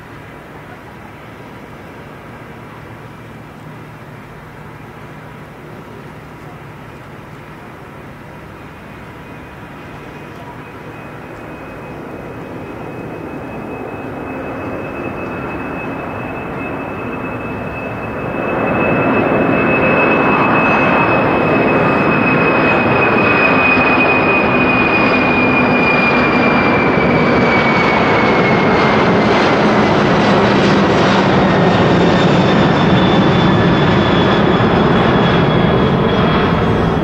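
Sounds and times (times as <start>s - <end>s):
high jet fan whine: 0.0s - 37.0s
jet engines rumbling at takeoff: 0.0s - 37.0s.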